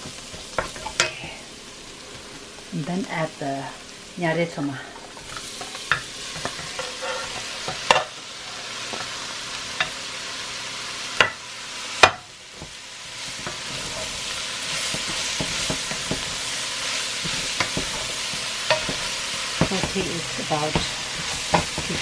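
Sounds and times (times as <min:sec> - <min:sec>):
greens sizzling in hot oil: 0:00.0 - 0:22.0.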